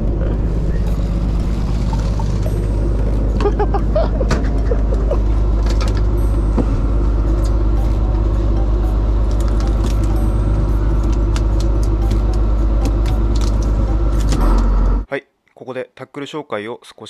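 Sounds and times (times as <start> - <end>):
boat engine droning: 0.0 - 15.1.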